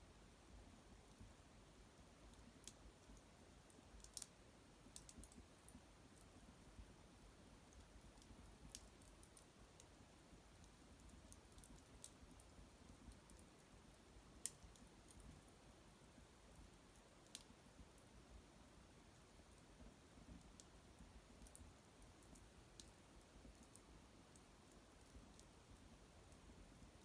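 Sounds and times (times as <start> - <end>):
small fire crackling and popping: 0.0 - 27.0.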